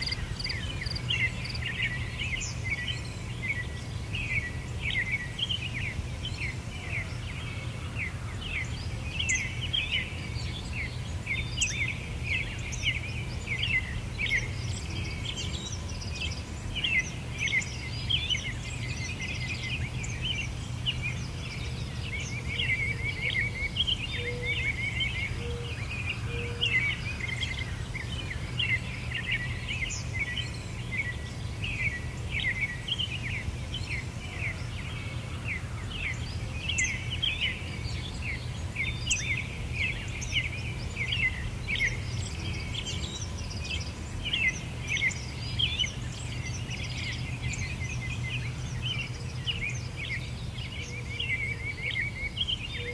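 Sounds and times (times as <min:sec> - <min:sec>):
birds chirping in chorus: 0:00.0 - 0:52.9.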